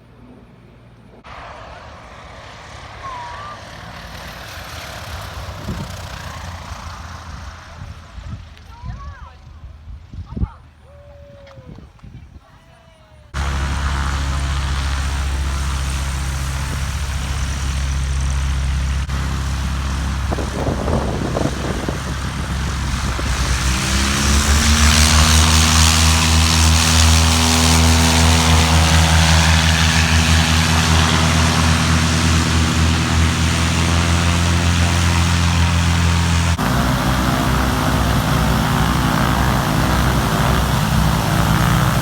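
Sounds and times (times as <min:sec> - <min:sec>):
propeller airplane engine: 0:01.1 - 0:10.1, 0:13.3 - 0:42.0.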